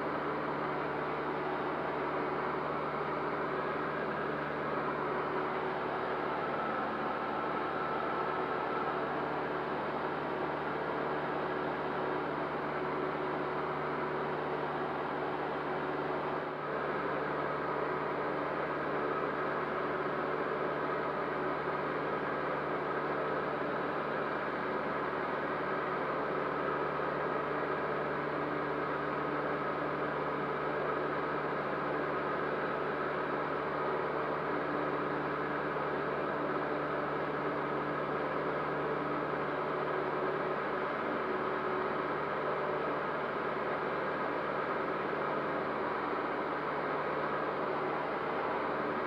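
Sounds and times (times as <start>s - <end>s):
light aircraft engine and propeller: 0.0s - 49.0s.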